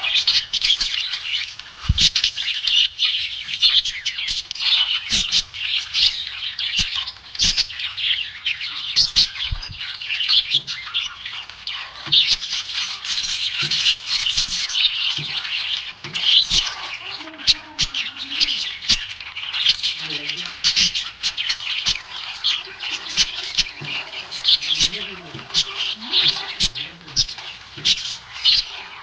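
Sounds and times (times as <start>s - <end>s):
budgerigars chirping and chattering: 0.0s - 29.0s.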